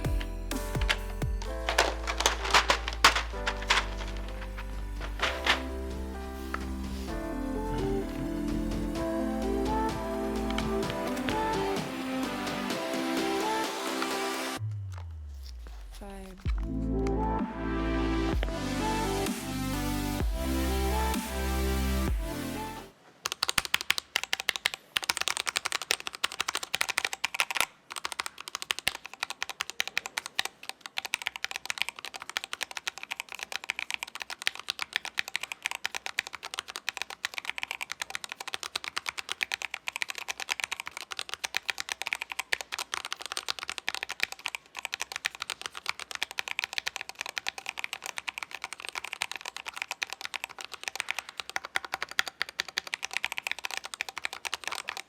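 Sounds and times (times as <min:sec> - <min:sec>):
keyboard typing clacks: 0:00.0 - 0:14.2, 0:23.2 - 0:55.0.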